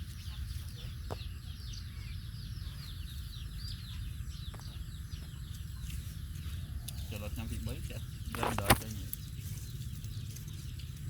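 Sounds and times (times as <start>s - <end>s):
young animals peeping: 0.0s - 11.0s.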